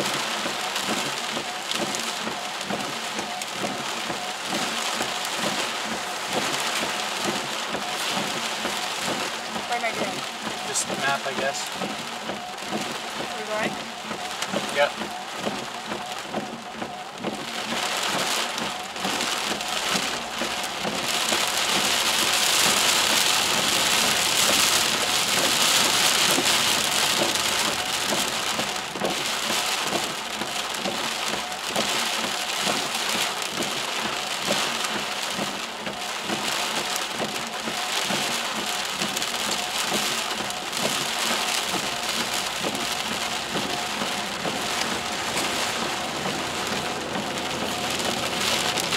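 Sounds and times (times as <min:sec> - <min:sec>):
heavy rain on car roof: 0:00.0 - 0:48.9.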